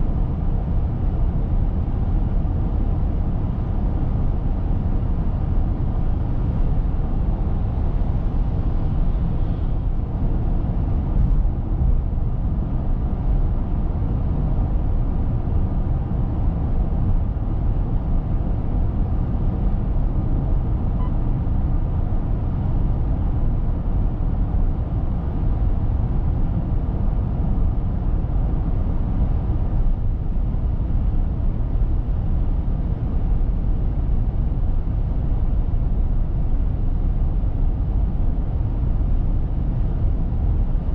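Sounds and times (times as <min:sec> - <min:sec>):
road and tyre rumble in car cabin: 0:00.0 - 0:40.9.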